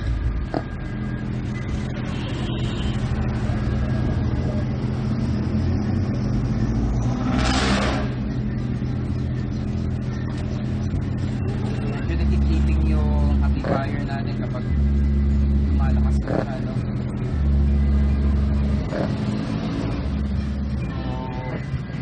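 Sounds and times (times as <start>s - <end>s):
deep bass tones from subwoofer: 0.0s - 22.0s.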